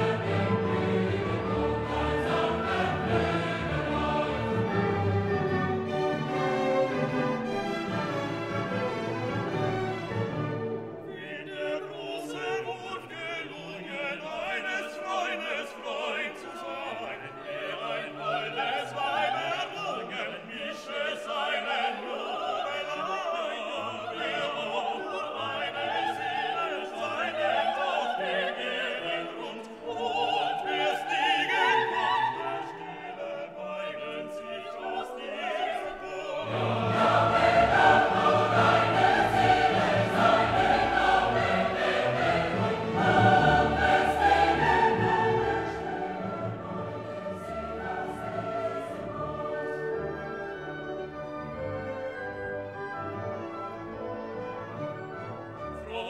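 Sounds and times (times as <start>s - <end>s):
operatic singing with choir: 0.0s - 51.6s, 55.5s - 56.0s
orchestra: 0.0s - 56.0s.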